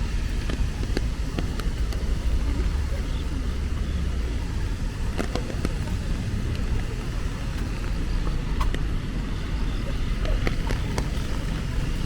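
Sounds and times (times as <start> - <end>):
rain: 0.0 - 12.0
road traffic rumble: 0.0 - 12.0.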